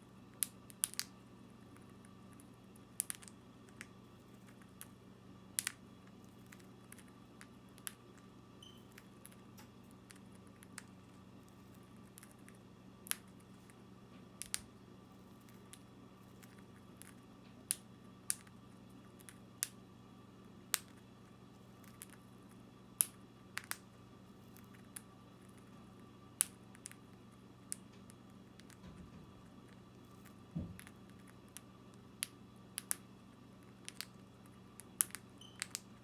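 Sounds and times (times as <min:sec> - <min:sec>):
low steady hum: 0:00.0 - 0:36.0
beak cracking seeds: 0:00.3 - 0:05.0, 0:05.6 - 0:14.7, 0:15.3 - 0:19.8, 0:20.7 - 0:25.7, 0:26.3 - 0:36.0.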